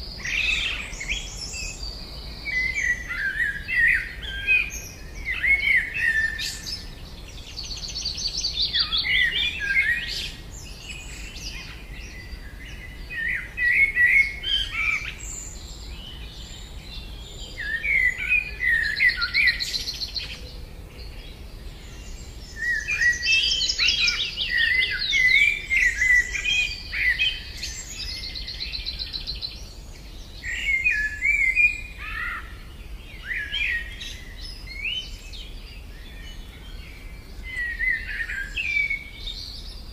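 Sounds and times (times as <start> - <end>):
bird chirping and twittering: 0.0 - 39.9
bird warbling song: 0.0 - 39.9.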